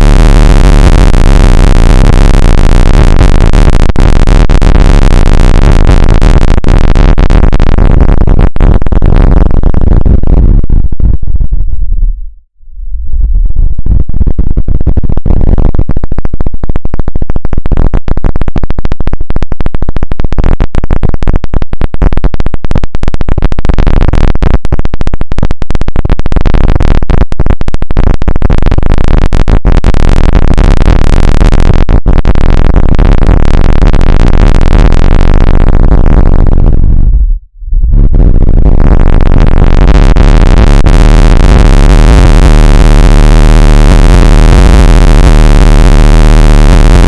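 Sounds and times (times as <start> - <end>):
harsh crackling electronic noise: 0.0 - 47.0.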